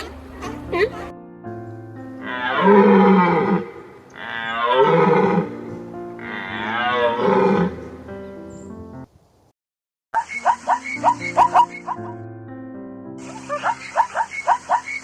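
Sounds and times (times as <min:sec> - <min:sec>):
background music: 0:00.0 - 0:09.1, 0:10.3 - 0:15.0.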